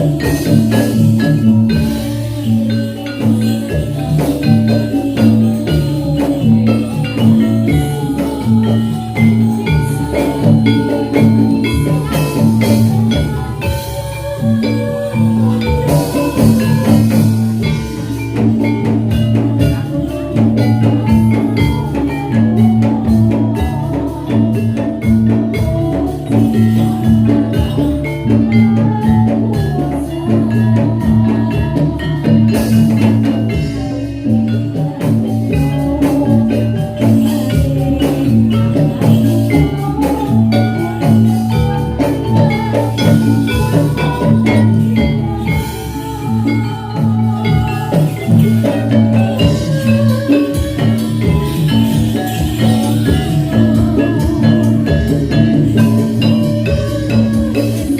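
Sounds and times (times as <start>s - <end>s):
drums: 0.0s - 57.9s
metallophones ringing: 0.0s - 57.9s.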